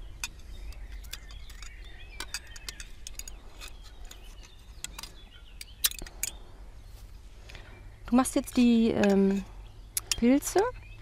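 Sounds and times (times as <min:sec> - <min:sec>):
faint birdsong: 0:00.0 - 0:11.0
low wind rumble: 0:00.0 - 0:11.0.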